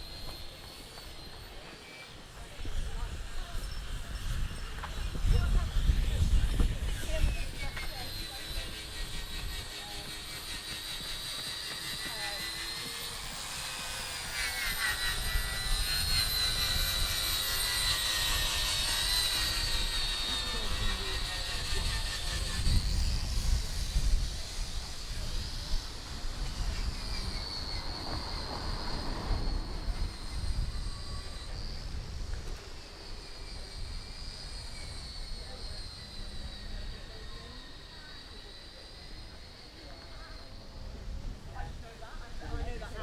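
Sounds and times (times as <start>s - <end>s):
aircraft engine whine and rumble: 0.0s - 43.0s.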